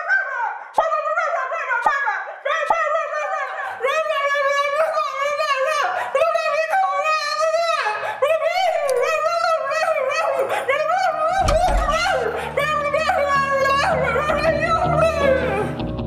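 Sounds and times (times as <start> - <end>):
high wordless singing voice: 0.0 - 16.0.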